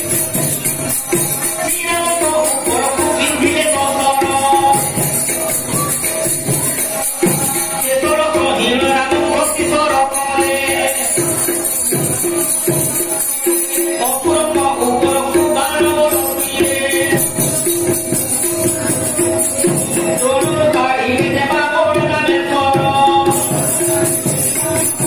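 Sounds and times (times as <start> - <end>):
jingling metal percussion: 0.0 - 25.0
rhythmic percussion: 0.0 - 25.0.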